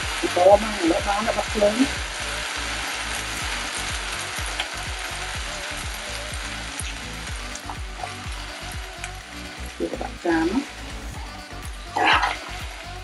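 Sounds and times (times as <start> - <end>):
noodles sizzling in a frying pan: 0.0 - 13.0.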